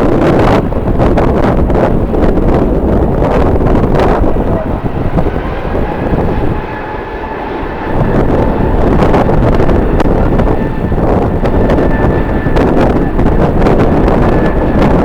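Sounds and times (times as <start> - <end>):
jet engines whining: 0.0 - 15.0
wind buffeting microphone: 0.0 - 15.0.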